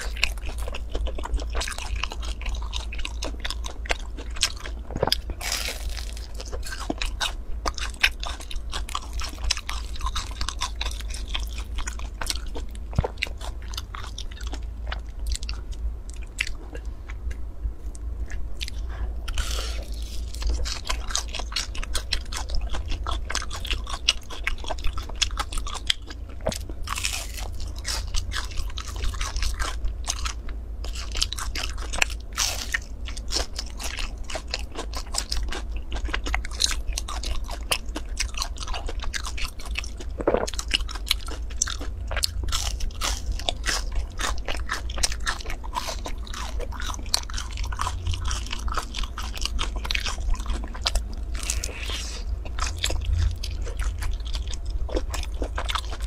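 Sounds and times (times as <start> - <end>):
crunchy cake chewing: 0.0 - 56.0
low steady hum: 0.0 - 56.0.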